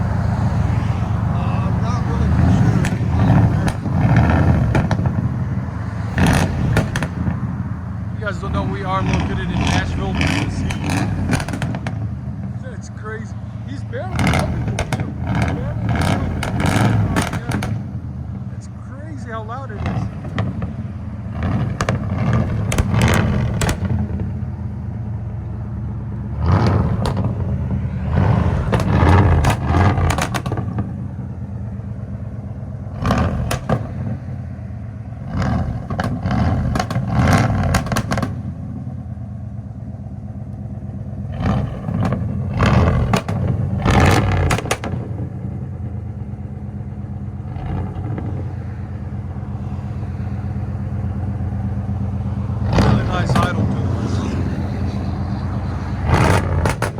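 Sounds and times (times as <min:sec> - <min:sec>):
engine exhaust idling and revving: 0:00.0 - 0:56.9.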